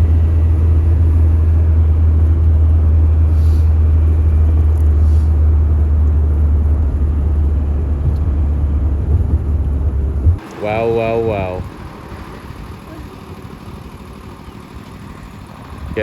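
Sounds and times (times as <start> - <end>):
vehicle road rumble: 0.0 - 16.0.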